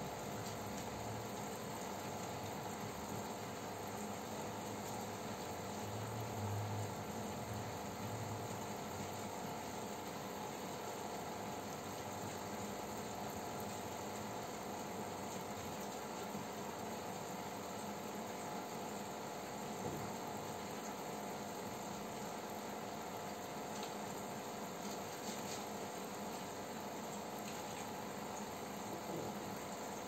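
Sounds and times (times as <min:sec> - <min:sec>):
aquarium filter and air pump hum: 0:00.0 - 0:30.0.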